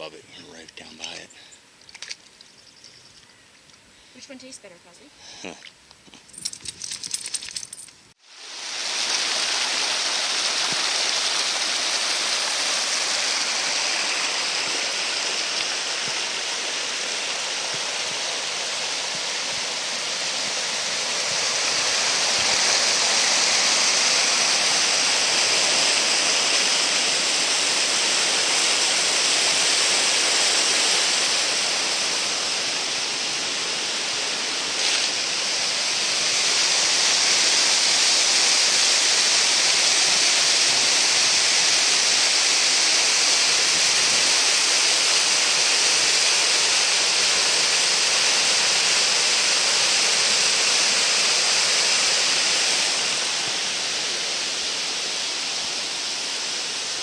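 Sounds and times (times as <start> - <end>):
waterfall rushing: 8.3 - 57.0.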